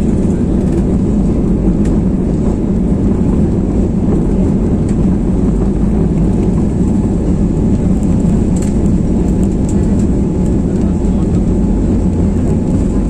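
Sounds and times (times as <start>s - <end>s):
jet engines heard inside cabin: 0.0s - 13.0s.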